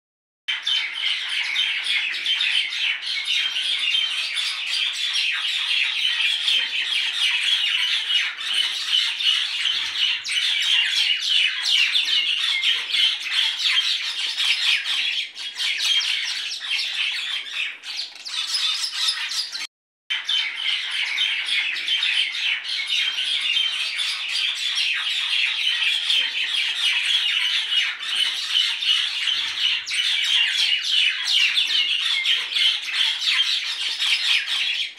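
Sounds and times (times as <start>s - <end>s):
small birds chattering and chirping: 0.5s - 34.9s.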